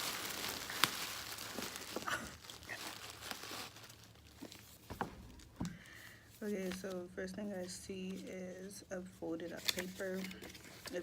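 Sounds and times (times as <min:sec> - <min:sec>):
bubble wrap crinkling and rustling: 0:00.0 - 0:08.2, 0:09.5 - 0:11.0.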